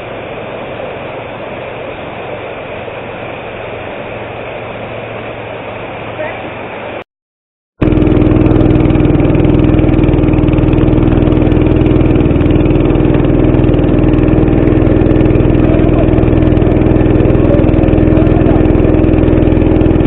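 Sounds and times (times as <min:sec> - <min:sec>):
small boat engine running: 0:00.0 - 0:07.0, 0:07.8 - 0:20.0.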